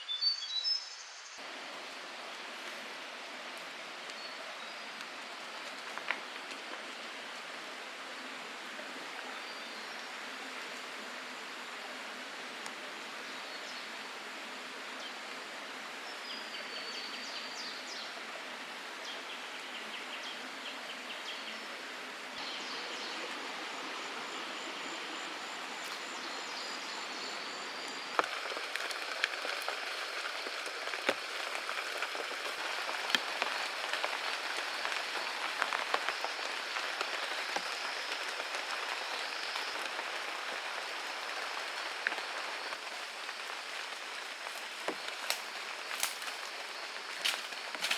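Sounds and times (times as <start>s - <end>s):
forest stream rushing: 0.0s - 47.9s.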